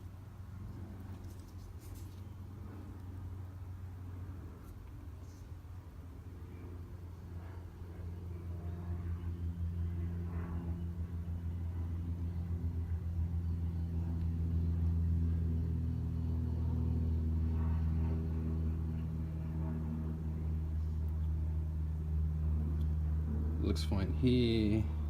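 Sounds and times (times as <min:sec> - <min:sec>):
engine running with low drone: 0:00.0 - 0:25.0.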